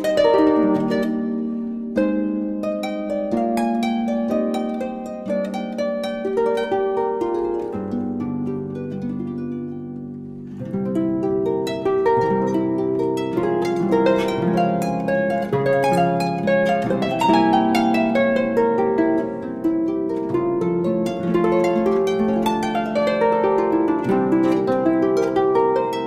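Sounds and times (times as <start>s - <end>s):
harp playing: 0.0s - 26.0s.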